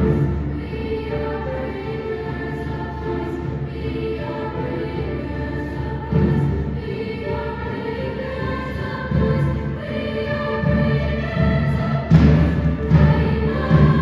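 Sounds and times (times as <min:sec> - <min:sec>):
choir singing chords: 0:00.0 - 0:14.0.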